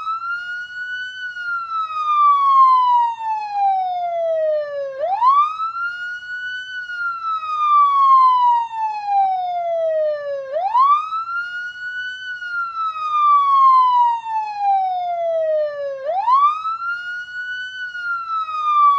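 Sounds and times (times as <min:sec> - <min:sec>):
police siren wailing: 0:00.0 - 0:18.9.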